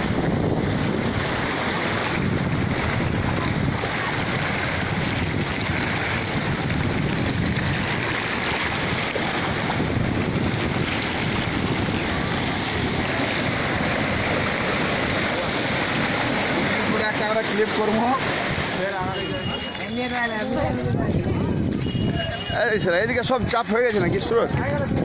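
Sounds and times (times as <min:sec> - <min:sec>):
wind buffeting microphone: 0:00.0 - 0:17.4, 0:20.4 - 0:22.4, 0:23.0 - 0:25.0
floodwater rushing over concrete: 0:00.0 - 0:25.0.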